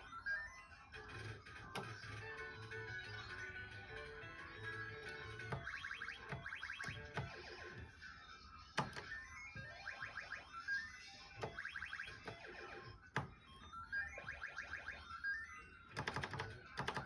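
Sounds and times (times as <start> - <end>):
electronic game music: 0.0 - 17.0.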